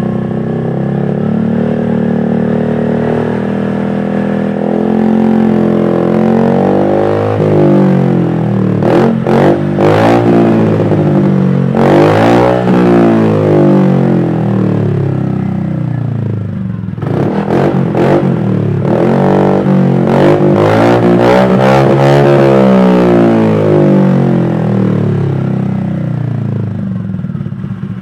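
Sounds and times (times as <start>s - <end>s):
scooter engine revving: 0.0s - 28.0s.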